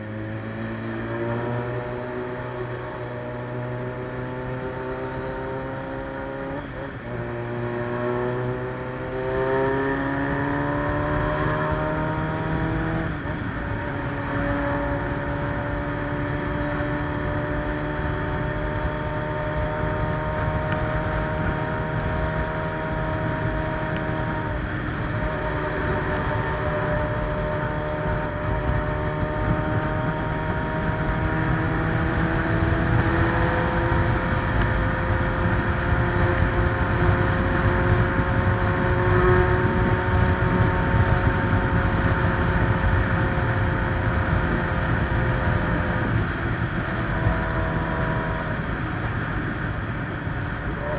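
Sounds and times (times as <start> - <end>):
motorcycle engine cruising: 0.0 - 50.9
road noise: 0.0 - 50.9
wind noise: 0.0 - 50.9.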